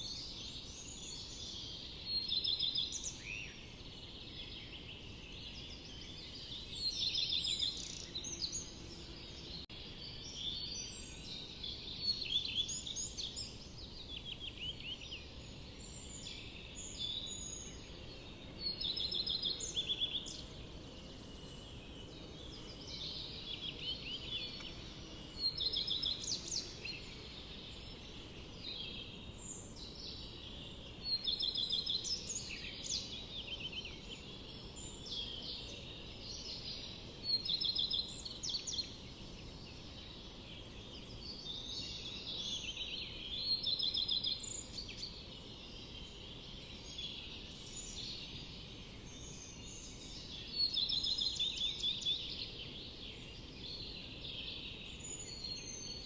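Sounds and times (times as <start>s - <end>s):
low background hiss: 0.0s - 56.0s
songbirds singing: 0.0s - 56.0s.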